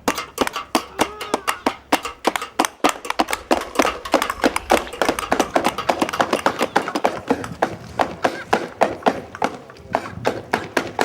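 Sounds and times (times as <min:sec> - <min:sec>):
sharp taps and knocks: 0:00.0 - 0:11.0.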